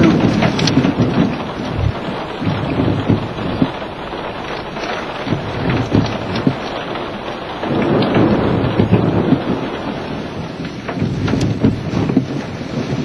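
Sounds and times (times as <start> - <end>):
hail and rain pelting a car: 0.0 - 13.0.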